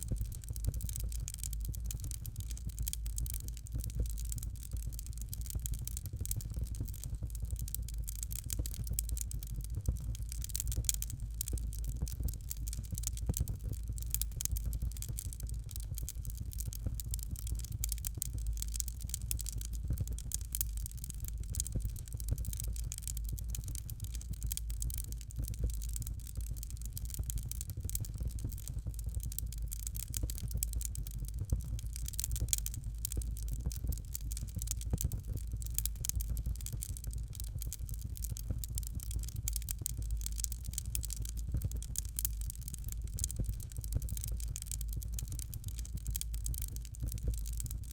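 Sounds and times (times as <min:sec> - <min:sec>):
fireplace fire crackling: 0:00.0 - 0:47.9.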